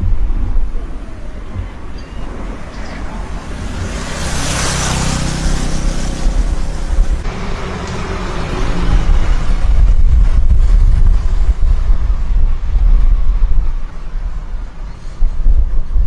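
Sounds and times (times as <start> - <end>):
motor vehicle passing: 0.0 - 15.6
wind buffeting microphone: 0.0 - 16.0.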